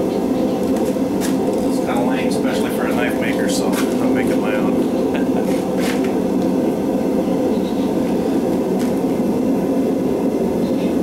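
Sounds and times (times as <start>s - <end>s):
gas burners rushing: 0.0s - 11.0s.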